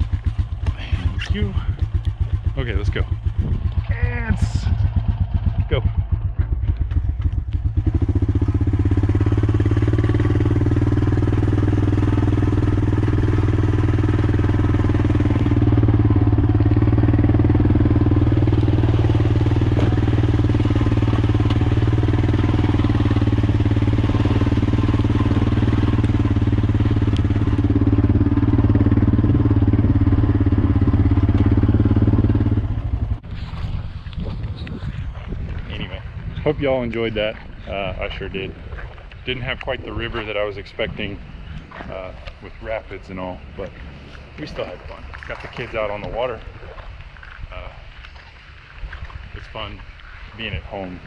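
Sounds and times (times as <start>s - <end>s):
quad bike engine running: 0.0s - 46.2s.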